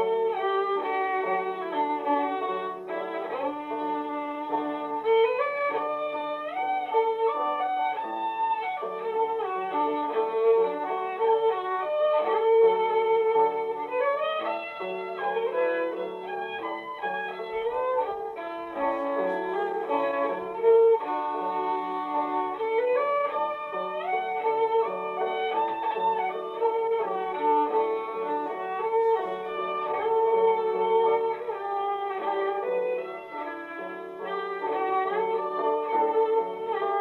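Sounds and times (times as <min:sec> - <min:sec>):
fiddle music: 0:00.0 - 0:37.0.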